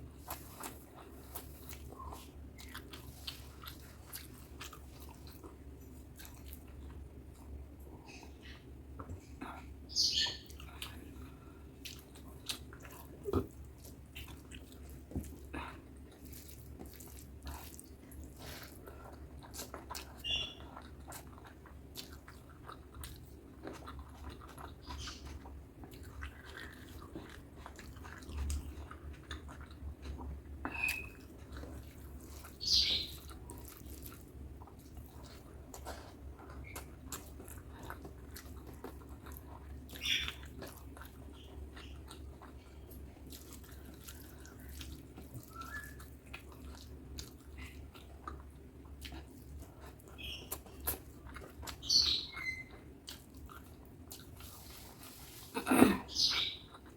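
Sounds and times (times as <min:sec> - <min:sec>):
steady low hum: 0:00.0 - 0:56.9
wet chewing and lip smacks: 0:00.2 - 0:09.4, 0:10.2 - 0:55.3.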